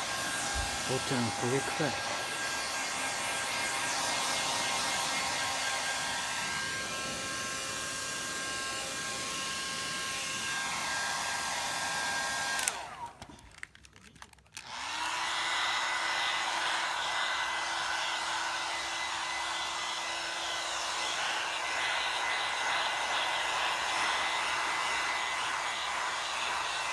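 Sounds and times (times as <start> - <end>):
hair dryer blowing: 0.0 - 13.4, 14.6 - 26.9.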